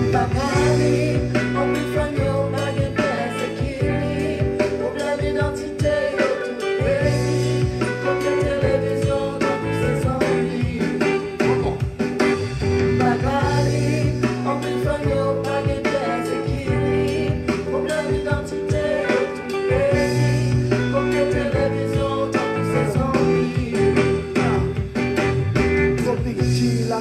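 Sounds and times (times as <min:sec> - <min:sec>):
song with guitar and beat: 0:00.0 - 0:27.0.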